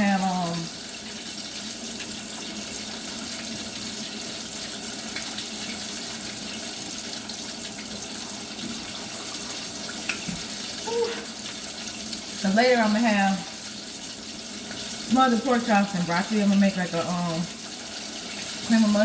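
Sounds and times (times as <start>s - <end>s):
faucet water pouring into sink: 0.0s - 19.0s.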